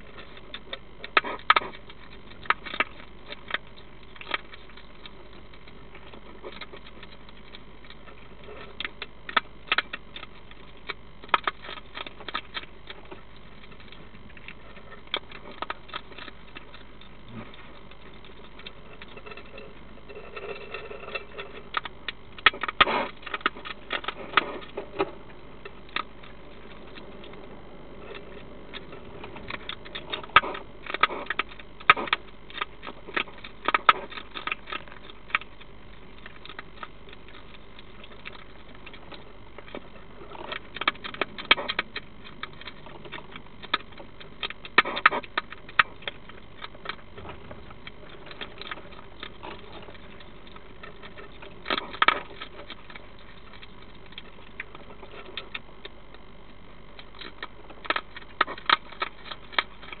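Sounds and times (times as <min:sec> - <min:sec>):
hedgehog crunching food: 0:00.0 - 1:00.0.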